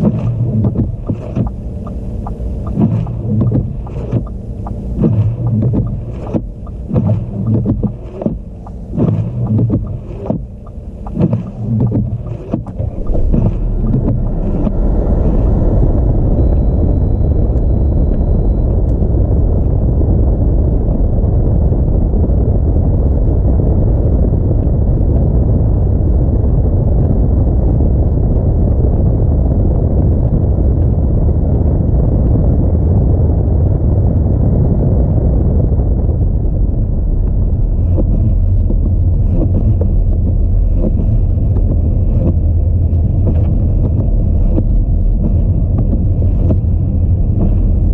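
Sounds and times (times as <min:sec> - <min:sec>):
gusty wind buffeting: 0:00.0 - 0:47.9
road noise low rumble: 0:00.0 - 0:47.9.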